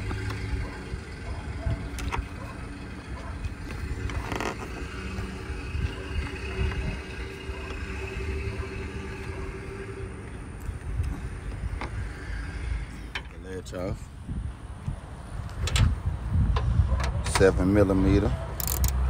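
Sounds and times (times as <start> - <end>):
steady low rumble: 0.0 - 17.2.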